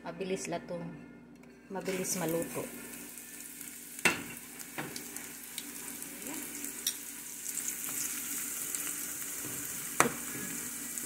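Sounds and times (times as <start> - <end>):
fish sizzling in hot oil: 2.0 - 11.0.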